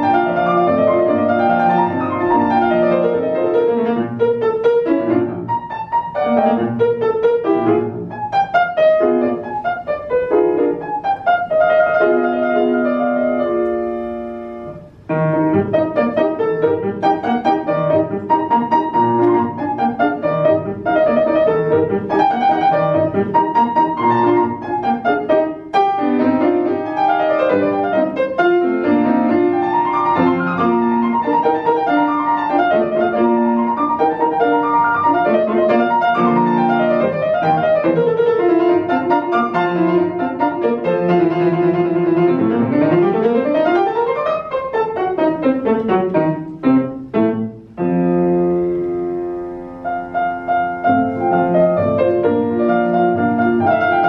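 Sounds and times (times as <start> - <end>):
grand piano playing: 0.0 - 54.0.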